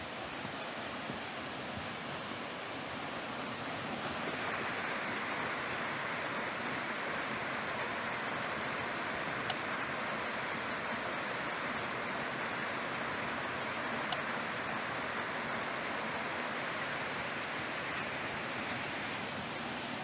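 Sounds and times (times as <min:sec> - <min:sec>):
flowing water rushing: 0:00.0 - 0:20.0.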